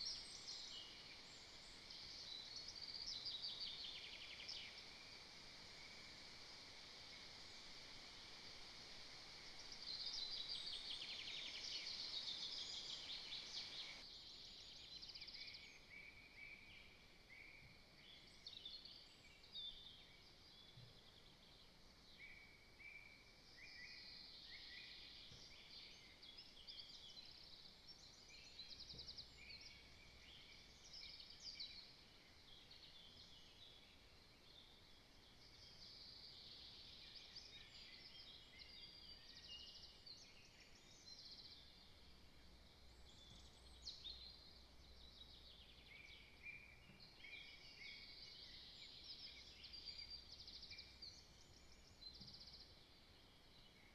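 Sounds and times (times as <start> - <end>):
songbirds trilling and chirping: 0.0 - 53.9.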